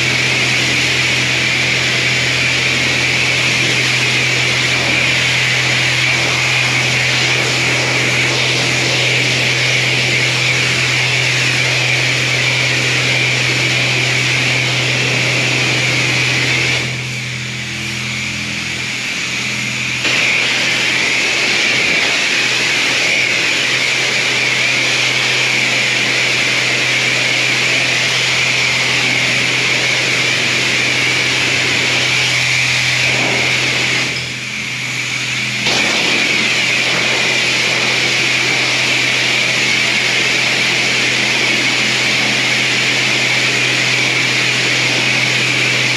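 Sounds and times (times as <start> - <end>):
pressure washer pump hum: 0.0 - 45.9.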